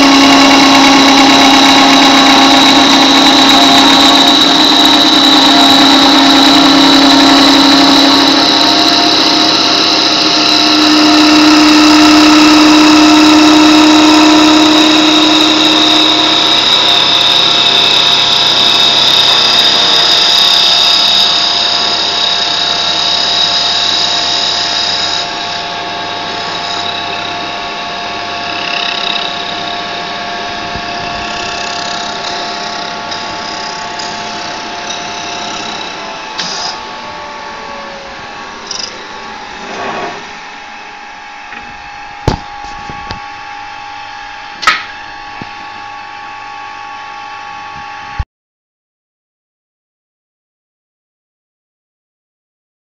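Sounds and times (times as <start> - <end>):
lathe running with high whine: 0.0 - 48.2.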